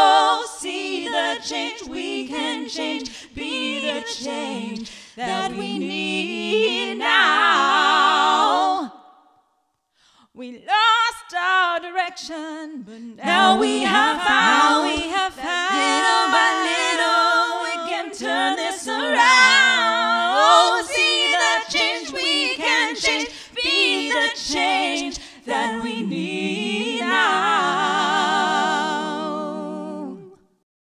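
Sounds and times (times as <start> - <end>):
a cappella female vocal harmonies: 0.0 - 30.6.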